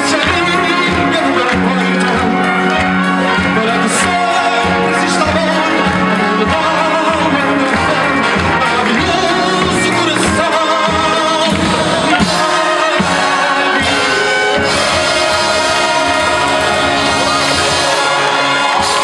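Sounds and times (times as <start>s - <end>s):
big band playing: 0.0s - 19.0s
person singing: 0.0s - 19.0s.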